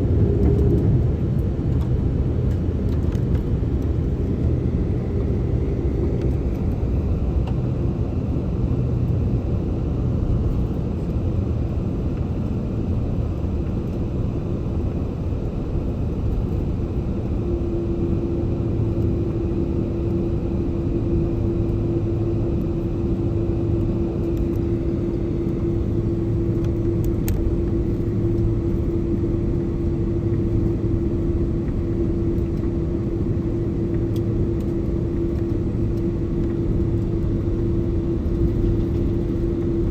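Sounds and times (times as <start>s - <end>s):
jet engine cabin rumble: 0.0s - 39.9s
steady low hum: 0.0s - 39.9s.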